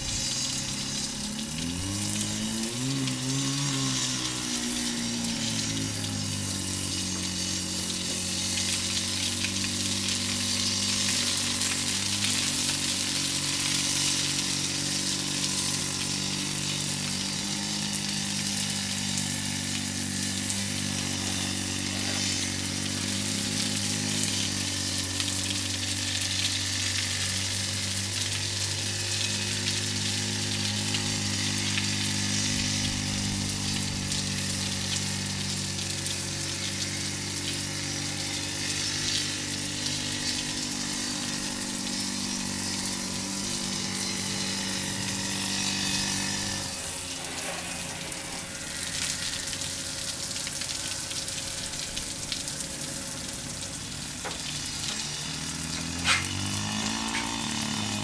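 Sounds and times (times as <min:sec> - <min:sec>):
pump humming: 0:00.0 - 0:58.0
water spraying onto tile roof: 0:00.0 - 0:58.0.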